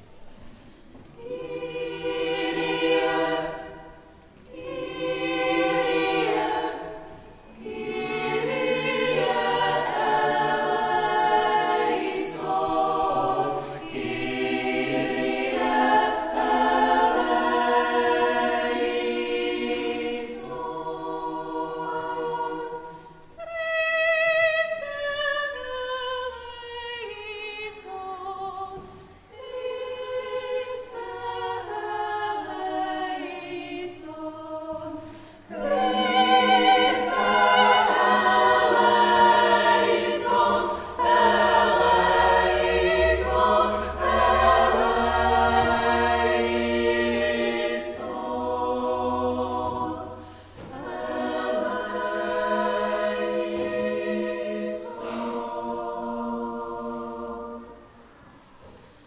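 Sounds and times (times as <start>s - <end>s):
choir singing: 0.0s - 58.8s.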